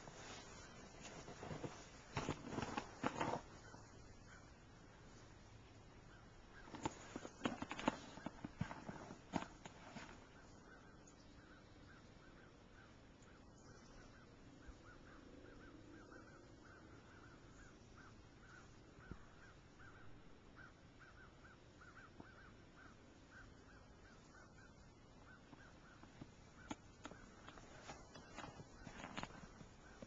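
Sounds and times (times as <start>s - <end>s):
faint bird chirping: 3.2s - 30.0s.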